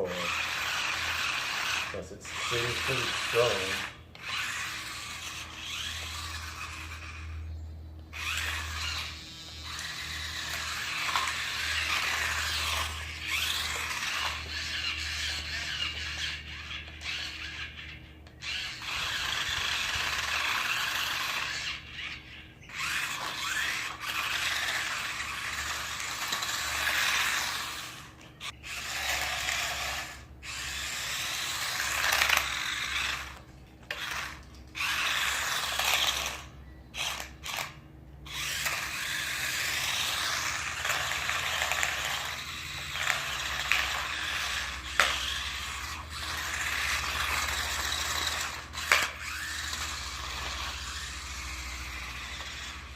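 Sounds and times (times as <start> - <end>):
toy car motors whirring: 0.0 - 52.9.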